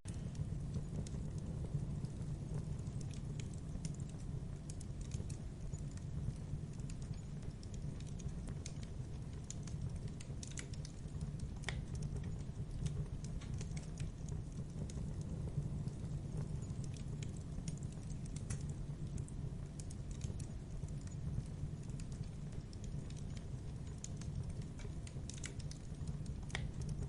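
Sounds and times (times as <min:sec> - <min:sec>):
wood fire crackling: 0:00.1 - 0:27.0.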